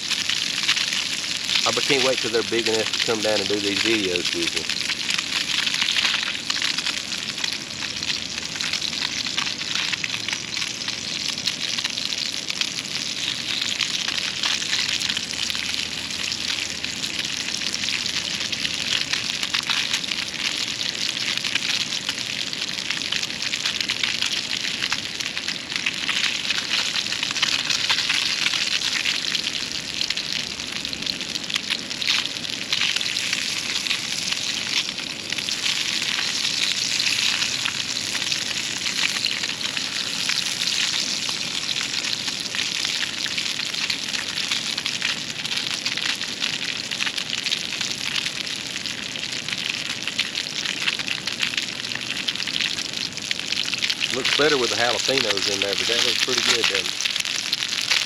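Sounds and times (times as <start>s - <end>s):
fish sizzling in a pan: 0.0s - 58.0s.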